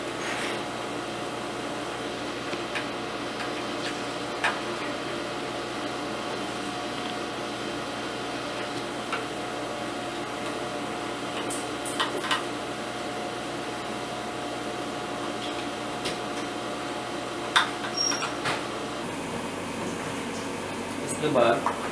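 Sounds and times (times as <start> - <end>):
background hum and hiss: 0.0 - 21.9.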